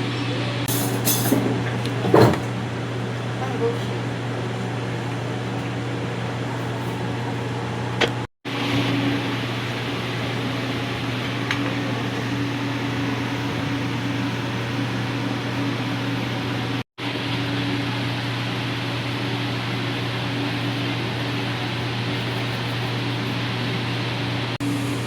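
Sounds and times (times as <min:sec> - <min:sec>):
mechanical hum with low drone: 0:00.0 - 0:25.0.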